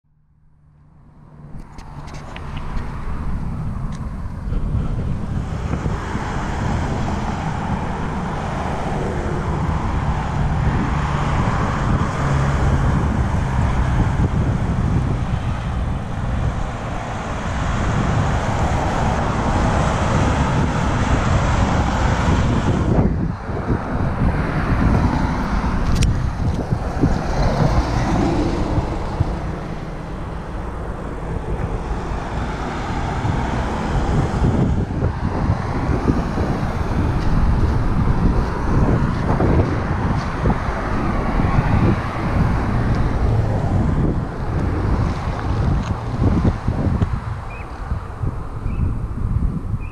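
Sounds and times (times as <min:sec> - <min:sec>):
car traffic passing: 0:00.1 - 0:49.9
wind rumbling on microphone: 0:00.8 - 0:49.9.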